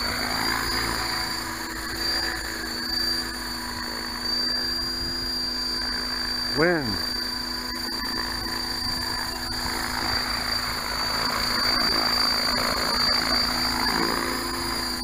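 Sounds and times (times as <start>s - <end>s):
rc helicopter rotor whine: 0.0s - 15.0s.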